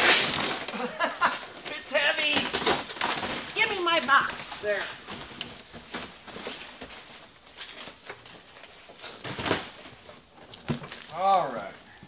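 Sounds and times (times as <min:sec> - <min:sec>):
cardboard boxes scraping: 0:00.0 - 0:11.1.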